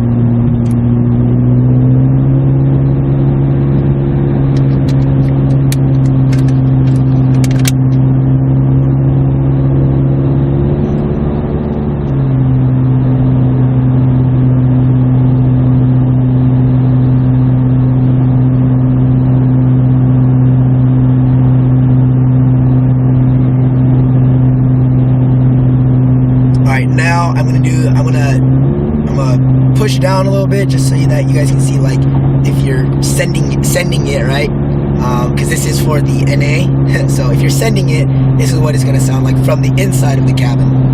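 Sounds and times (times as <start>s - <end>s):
car exhaust drone in cabin: 0.0s - 40.9s.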